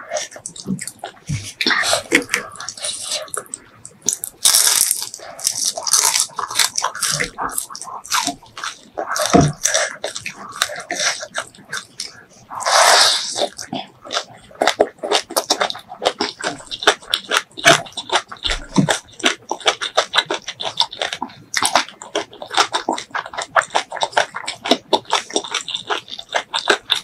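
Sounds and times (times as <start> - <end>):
chewing and lip smacking: 0.1 - 27.0.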